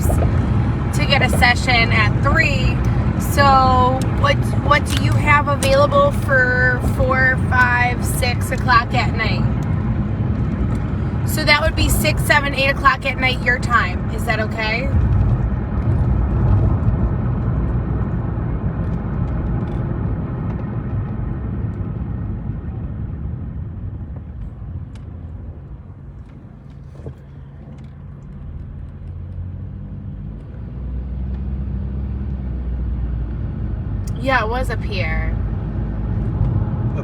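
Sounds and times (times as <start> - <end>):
car road and engine rumble: 0.0 - 37.0.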